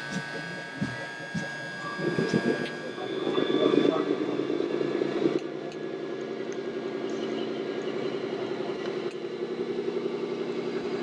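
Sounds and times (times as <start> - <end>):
toy truck diesel engine sound: 0.0 - 11.0.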